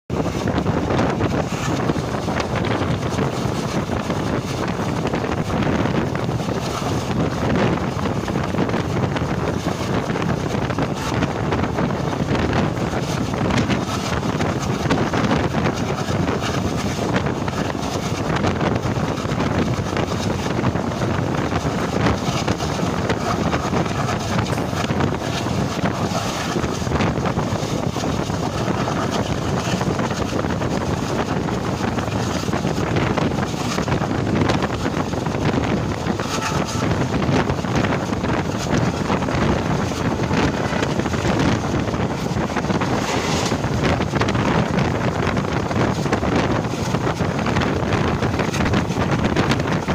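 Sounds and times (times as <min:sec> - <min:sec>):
train wheels rumbling: 0:00.1 - 0:49.9
wind rushing on microphone: 0:00.1 - 0:49.9.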